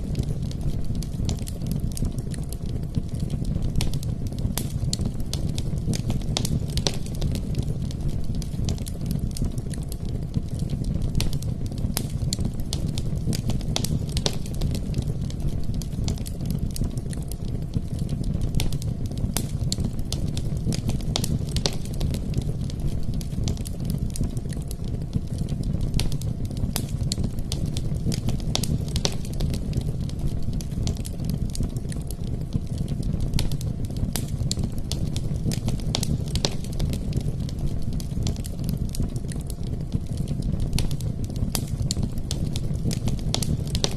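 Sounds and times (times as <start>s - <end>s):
fire crackling and popping: 0.0s - 43.9s
fire low rumble: 0.0s - 43.9s.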